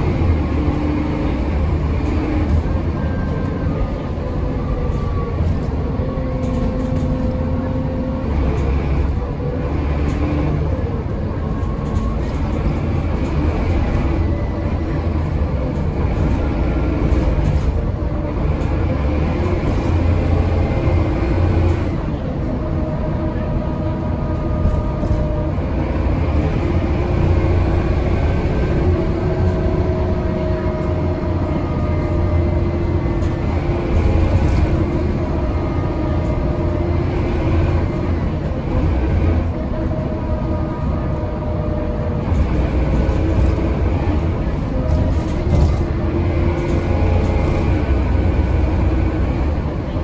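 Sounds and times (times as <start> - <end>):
bus diesel engine revving: 0.0 - 50.0.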